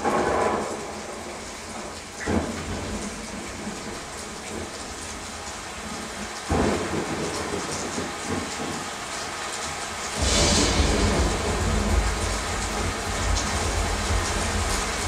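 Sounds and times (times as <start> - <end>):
thunderclaps: 0.0 - 8.9, 10.1 - 15.0
steady rain: 0.0 - 15.0.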